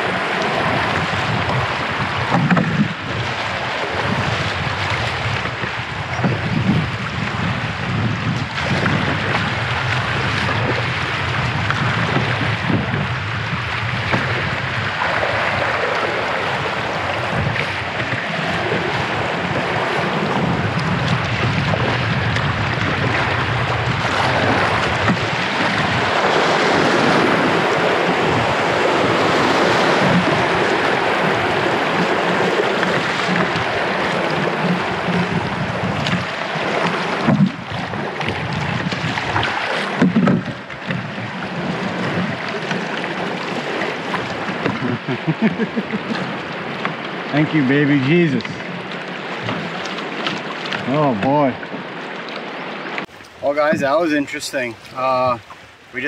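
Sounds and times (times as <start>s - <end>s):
rapids rushing and splashing: 0.0s - 56.0s.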